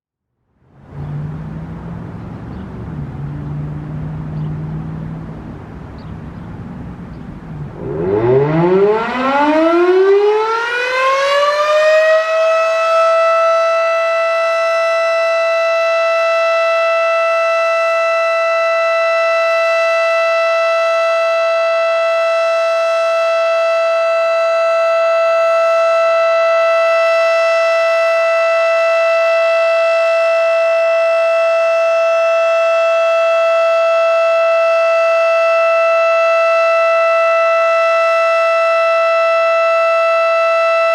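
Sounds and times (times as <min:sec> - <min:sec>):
outdoor warning siren: 0:00.4 - 0:40.9.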